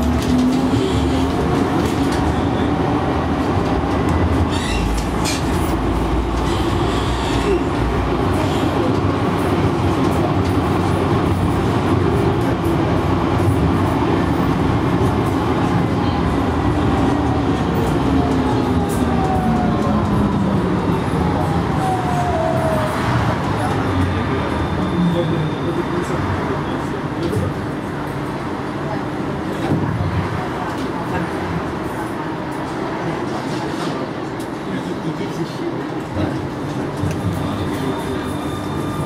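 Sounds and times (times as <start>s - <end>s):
tram wheels rumbling on rail: 0.0s - 39.0s.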